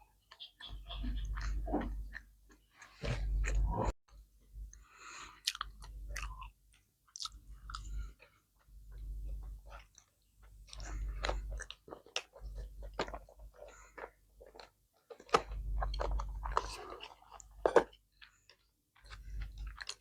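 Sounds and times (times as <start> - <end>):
close-up chewing and crunching: 0.1 - 3.9, 4.6 - 20.0.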